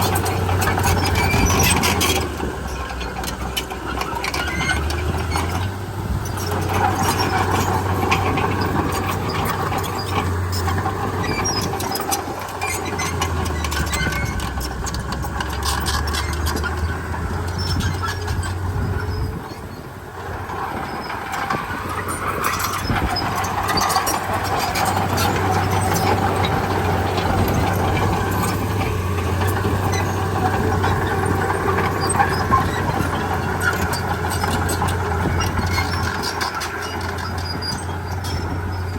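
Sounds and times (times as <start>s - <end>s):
bulldozer diesel engine: 0.0s - 38.9s
tracks squealing and clanking: 0.0s - 38.9s.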